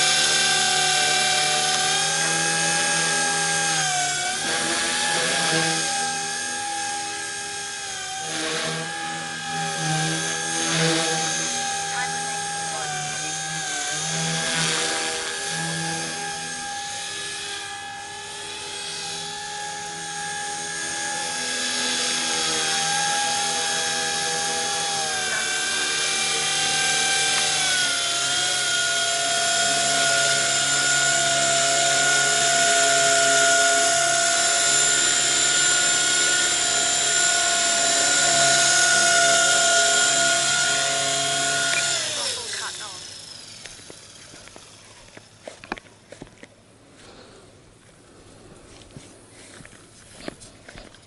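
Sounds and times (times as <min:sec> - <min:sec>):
rc helicopter motor whining: 0:00.0 - 0:51.0.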